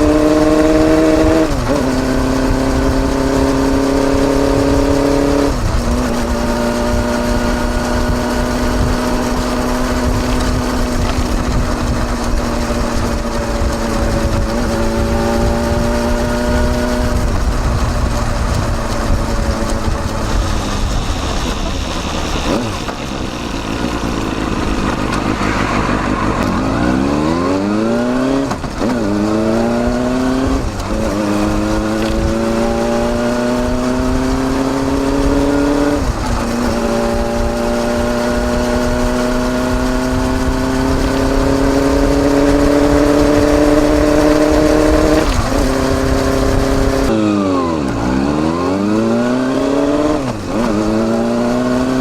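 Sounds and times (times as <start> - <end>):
motorcycle exhaust revving: 0.0 - 52.0.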